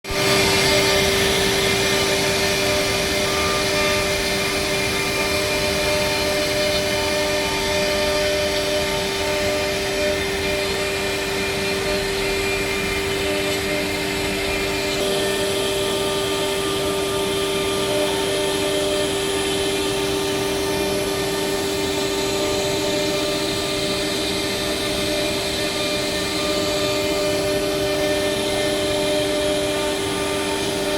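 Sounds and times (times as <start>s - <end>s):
milling machine whine: 0.0s - 30.9s.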